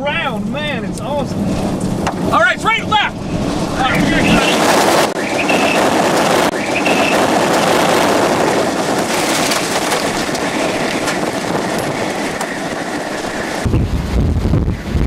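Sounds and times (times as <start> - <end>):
tornado wind roaring: 0.0 - 15.0.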